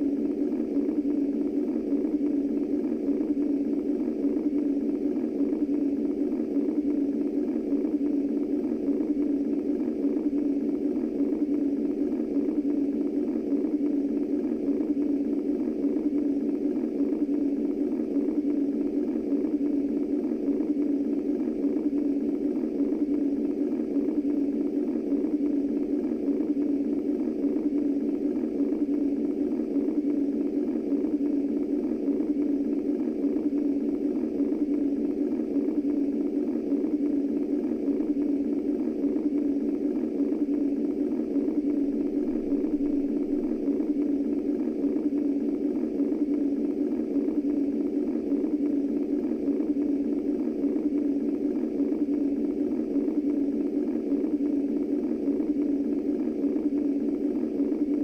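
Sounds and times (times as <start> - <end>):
muffled womb-style white noise: 0.0 - 58.0.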